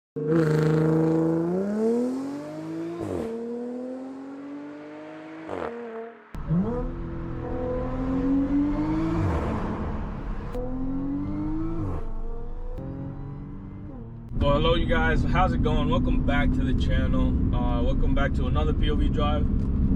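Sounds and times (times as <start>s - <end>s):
car engine accelerating through gears: 0.2s - 17.9s.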